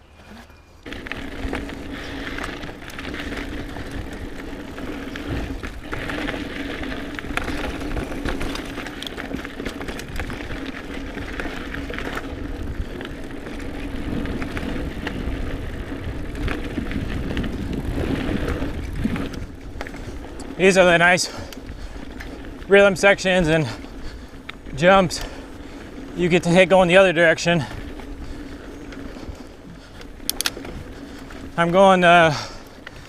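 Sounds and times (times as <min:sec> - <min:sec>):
tyres and wind rushing: 0:00.0 - 0:33.0
bike clattering over bumps: 0:00.3 - 0:33.0.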